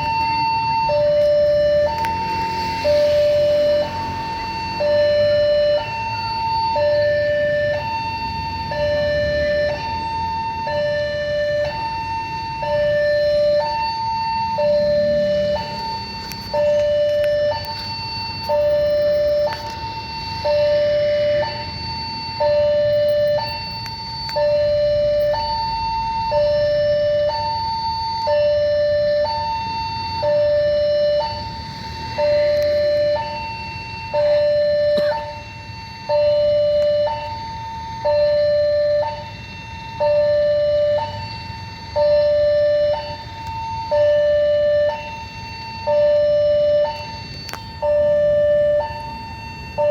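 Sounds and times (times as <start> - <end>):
two-tone level crossing alarm: 0.0 - 49.9.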